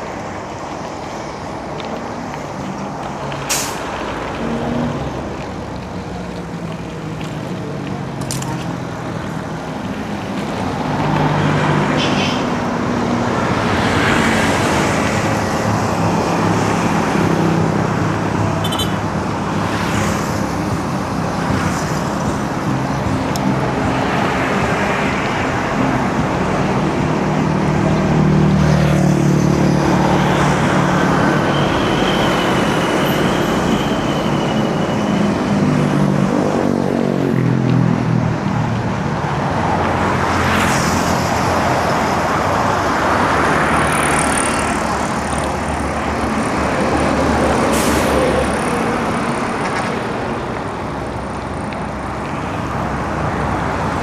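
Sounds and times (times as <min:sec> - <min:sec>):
vehicle engines running: 0:00.0 - 0:54.0
vehicles passing: 0:00.0 - 0:54.0.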